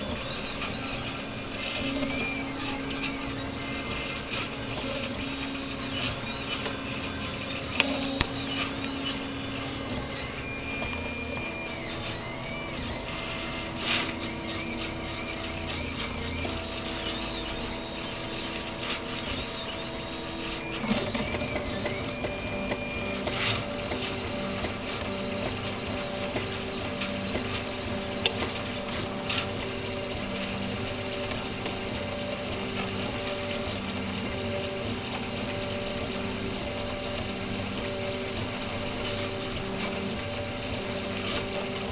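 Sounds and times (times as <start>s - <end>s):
sharp clicks: 0.0s - 41.9s
stepper motors whining: 0.0s - 41.9s.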